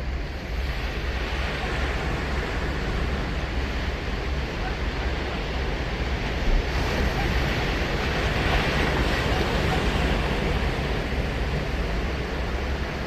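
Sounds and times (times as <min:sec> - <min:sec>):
surf breaking on beach: 0:01.1 - 0:13.0.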